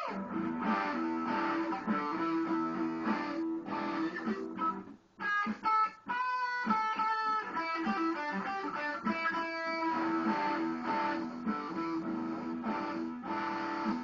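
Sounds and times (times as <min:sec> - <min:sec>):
electric guitar riff: 0:00.0 - 0:14.0.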